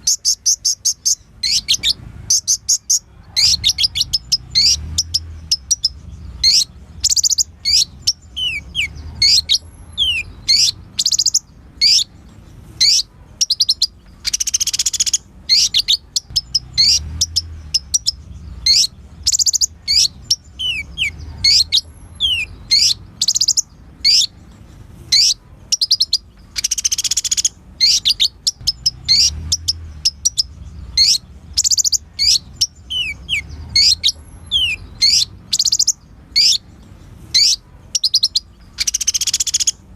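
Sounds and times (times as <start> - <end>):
buzzy bird trill: 0.0 - 39.9
sunbird singing: 0.0 - 39.9.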